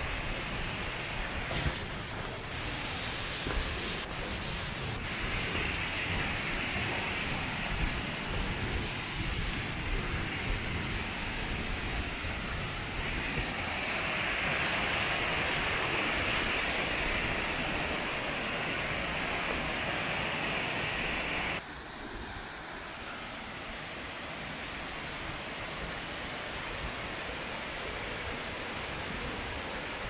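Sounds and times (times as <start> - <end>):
waterfall rushing: 5.0 - 30.0.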